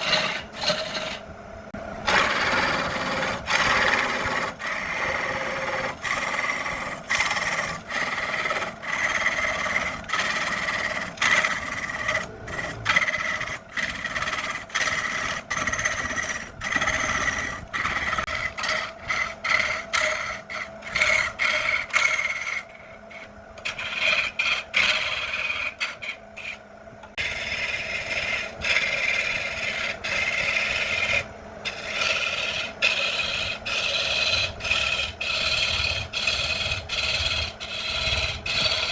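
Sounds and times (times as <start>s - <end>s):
tool scraping wood: 0.0s - 1.3s, 2.0s - 38.9s.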